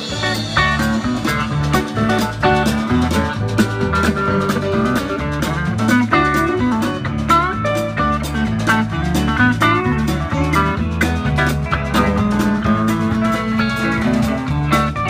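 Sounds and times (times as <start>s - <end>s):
bass: 0.0s - 15.0s
pedal steel guitar sliding notes: 0.0s - 15.0s
rhythm guitar: 0.0s - 15.0s
steady drum beat: 0.0s - 15.0s.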